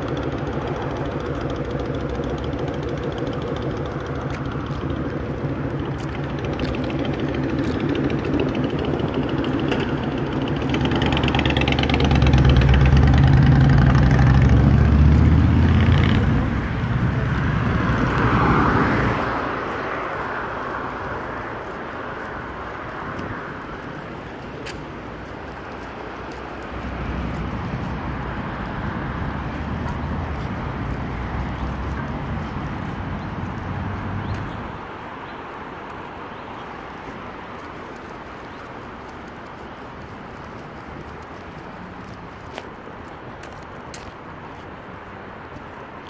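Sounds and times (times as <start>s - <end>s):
heavy low-pitched vehicle passing: 0.0s - 43.2s
vehicles passing on wet road: 0.0s - 46.0s.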